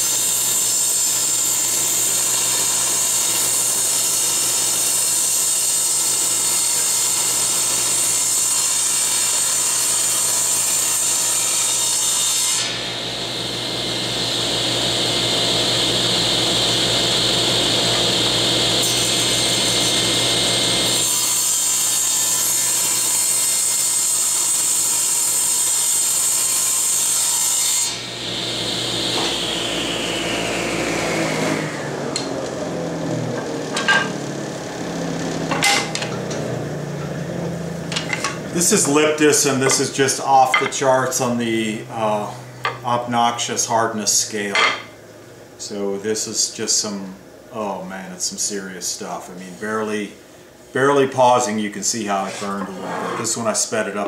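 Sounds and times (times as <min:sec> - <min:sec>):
table saw ripping wood: 0:00.0 - 0:41.3, 0:51.2 - 0:53.7.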